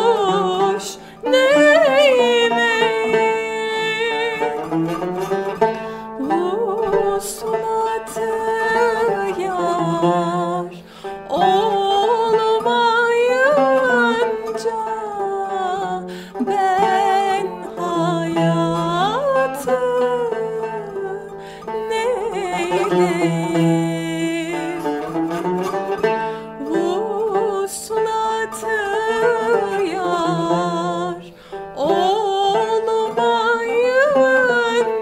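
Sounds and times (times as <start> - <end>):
woman singing: 0.0 - 5.4, 6.1 - 25.8, 26.4 - 35.0
plucked tanbur: 0.0 - 35.0.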